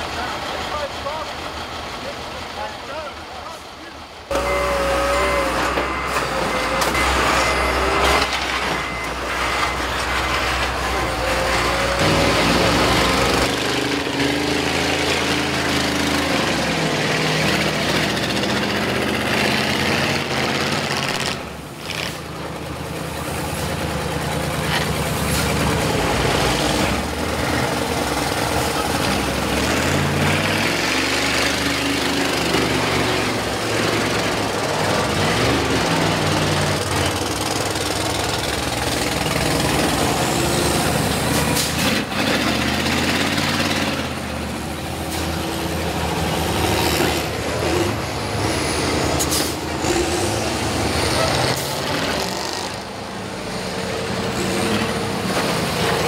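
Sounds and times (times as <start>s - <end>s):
bus engines revving: 0.0s - 56.0s.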